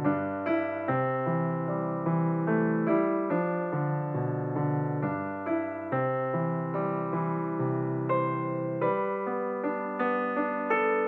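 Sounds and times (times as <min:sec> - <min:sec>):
piano-like keyboard music: 0:00.0 - 0:11.0.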